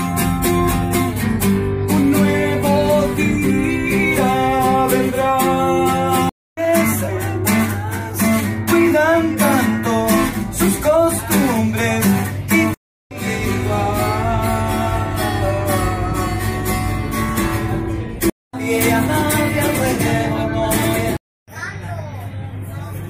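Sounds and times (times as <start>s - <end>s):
man singing: 0.0s - 17.2s, 18.5s - 21.2s
music with singing: 0.0s - 21.2s
strummed acoustic guitar: 0.0s - 21.2s.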